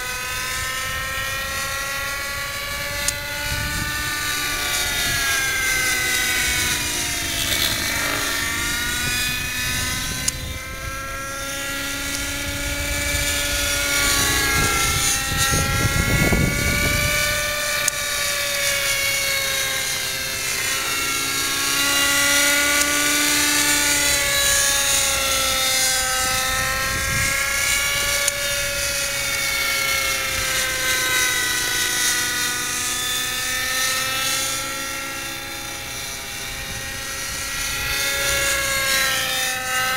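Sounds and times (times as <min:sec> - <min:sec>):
model helicopter whine: 0:00.0 - 0:39.9.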